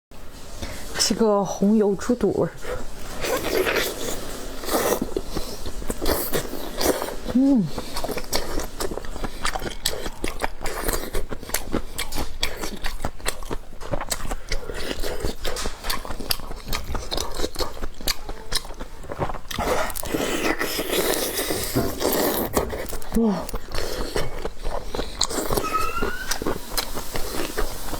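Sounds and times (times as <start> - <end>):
close chewing with wet clicks: 2.6 - 27.9.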